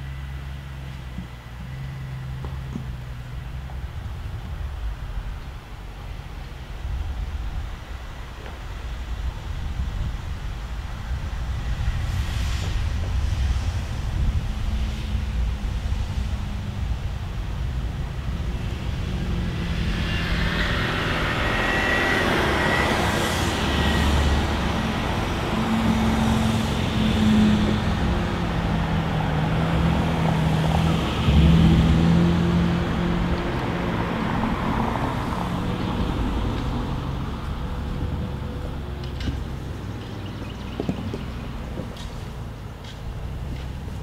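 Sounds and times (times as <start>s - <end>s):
engine working under load: 0.0s - 44.0s.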